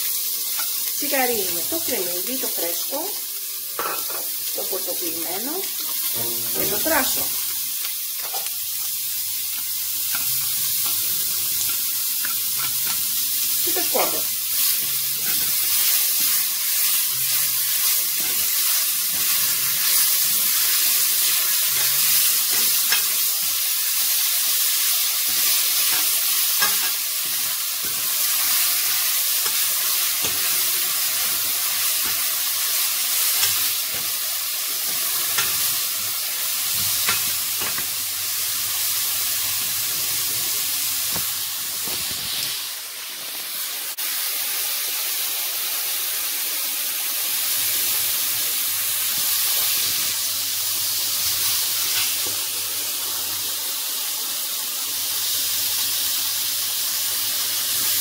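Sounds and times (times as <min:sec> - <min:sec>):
sausages sizzling in a pot: 0:00.0 - 0:58.0.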